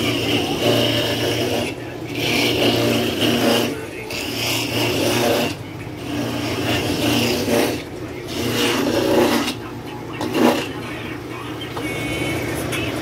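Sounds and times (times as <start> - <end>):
electric hum: 0.0 - 13.0
motorised grater running: 0.0 - 13.0.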